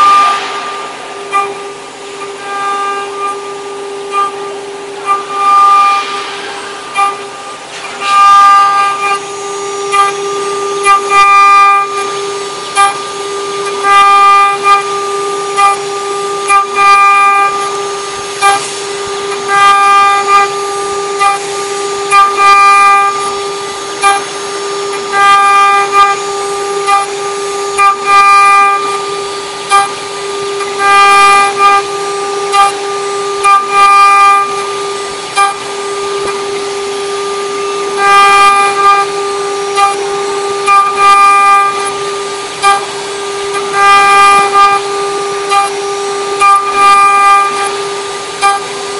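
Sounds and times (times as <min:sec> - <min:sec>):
cutter squealing on metal: 0:00.0 - 0:48.9
spindle whine: 0:00.0 - 0:48.9.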